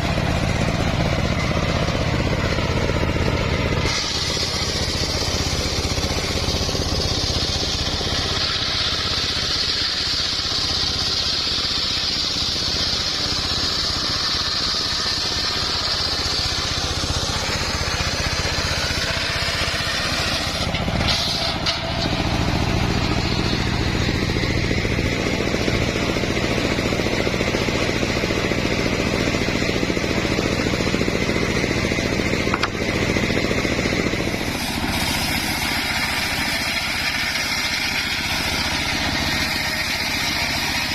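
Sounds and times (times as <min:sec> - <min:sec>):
engine hum: 0:00.0 - 0:40.9
saw blade whine: 0:00.0 - 0:40.9.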